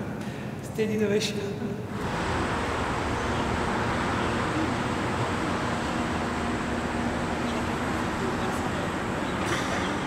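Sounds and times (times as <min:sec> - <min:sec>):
road traffic hum: 0:01.9 - 0:10.0.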